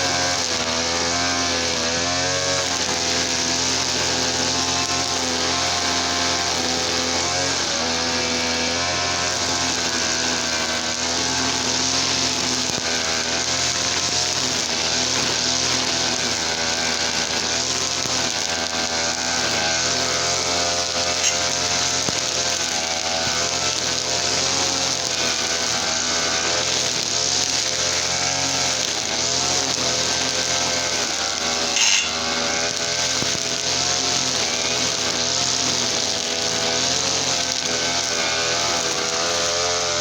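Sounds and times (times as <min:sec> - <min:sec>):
brush cutter engine running: 0:00.0 - 0:40.0.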